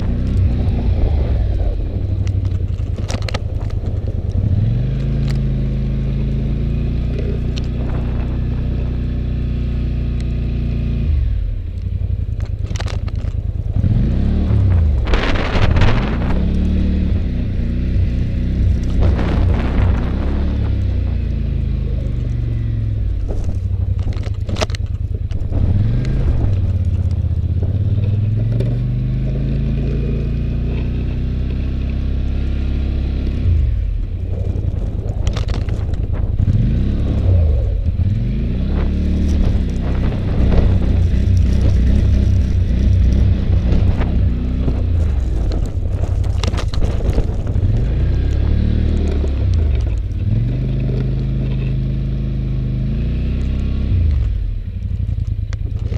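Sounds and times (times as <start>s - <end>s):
engine revving: 0.0s - 2.1s, 4.3s - 11.6s, 13.7s - 55.0s.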